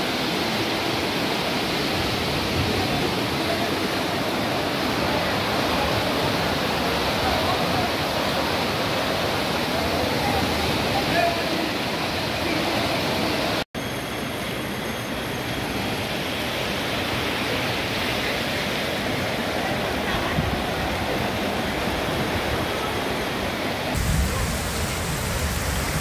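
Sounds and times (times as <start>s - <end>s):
floodwater rushing: 0.0s - 13.6s, 15.2s - 26.0s
heavy rain pouring on street: 0.0s - 13.6s, 15.7s - 26.0s.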